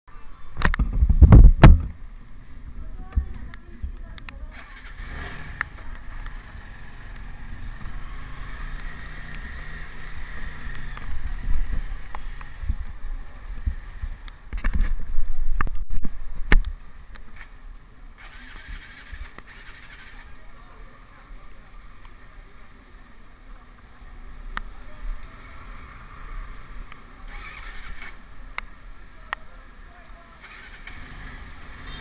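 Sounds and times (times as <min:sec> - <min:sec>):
motorcycle engine rumble: 0:00.1 - 0:32.0.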